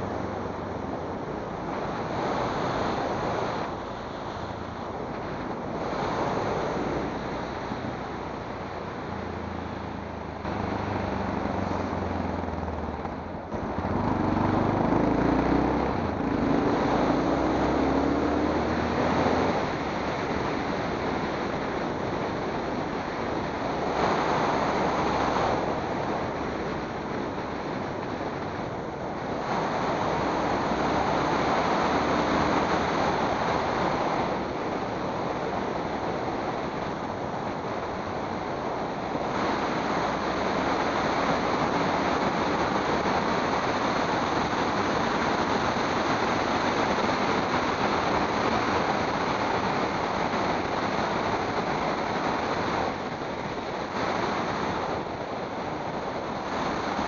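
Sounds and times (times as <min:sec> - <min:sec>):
wind rushing on microphone: 0:00.0 - 0:57.0.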